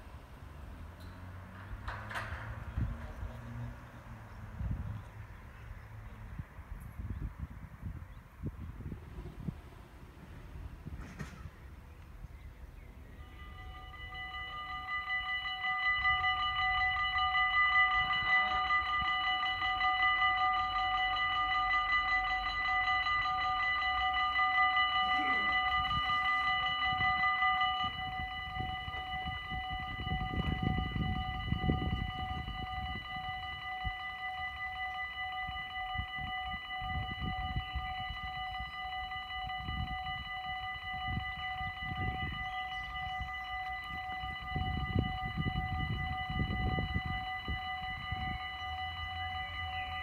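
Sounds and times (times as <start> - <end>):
level crossing warning bells: 0.0 - 7.2, 7.8 - 50.0.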